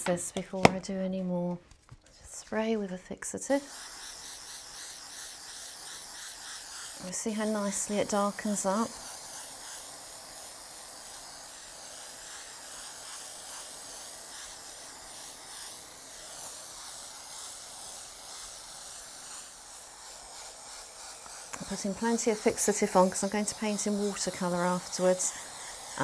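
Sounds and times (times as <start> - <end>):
aerosol can spraying: 3.4 - 26.0.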